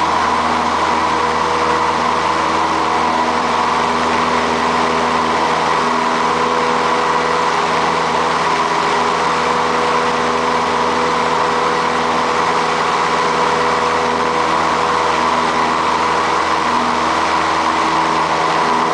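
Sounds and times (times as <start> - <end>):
light airplane engine droning: 0.0 - 18.9.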